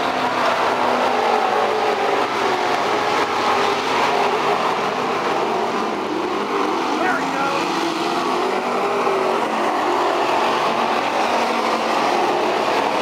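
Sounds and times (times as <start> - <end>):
race car engines running: 0.0 - 13.0.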